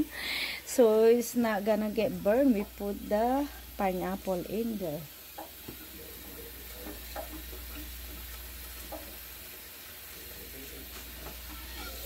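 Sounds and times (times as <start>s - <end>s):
ribs sizzling in a pot: 0.0s - 12.0s.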